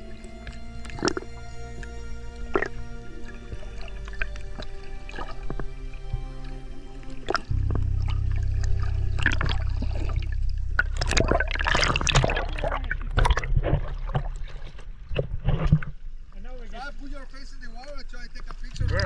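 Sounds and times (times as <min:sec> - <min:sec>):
water bubbling and gurgling: 0:00.0 - 0:16.4, 0:18.6 - 0:19.0
underwater low rumble: 0:00.0 - 0:19.0.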